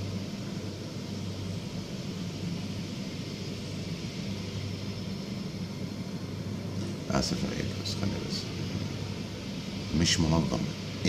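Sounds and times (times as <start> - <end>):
even hiss: 0.0 - 11.0
low hum: 0.0 - 11.0.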